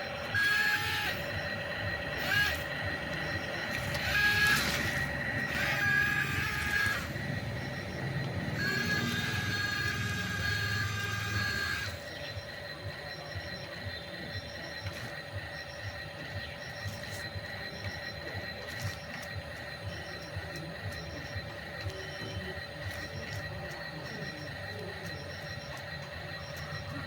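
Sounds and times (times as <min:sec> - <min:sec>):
steady tones: 0:00.0 - 0:27.0
toy excavator motors whining: 0:00.0 - 0:27.0.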